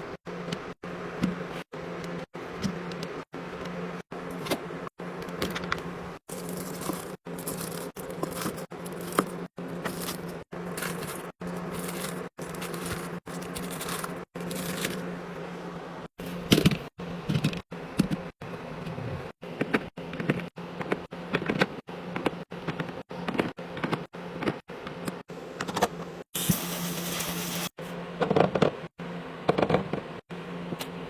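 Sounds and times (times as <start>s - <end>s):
steady low hum: 0.0s - 26.3s.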